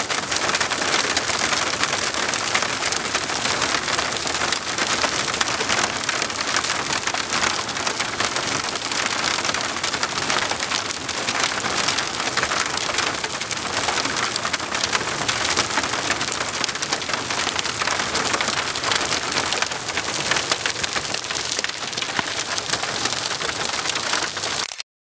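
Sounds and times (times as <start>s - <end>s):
hail and rain on hard surface: 0.0s - 24.8s.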